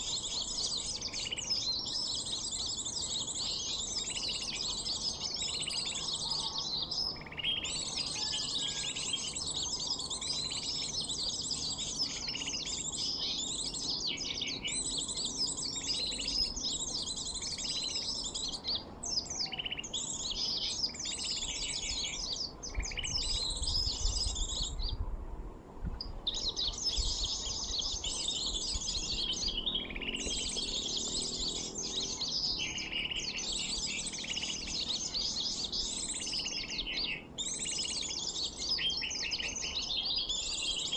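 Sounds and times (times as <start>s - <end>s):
small birds chirping: 0.0s - 25.1s, 25.8s - 40.9s.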